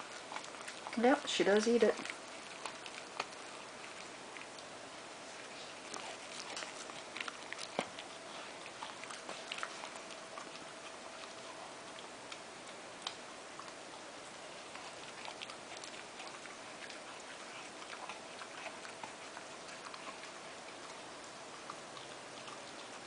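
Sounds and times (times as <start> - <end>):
dog chewing: 0.0 - 23.0
faint steady hum: 0.0 - 23.0.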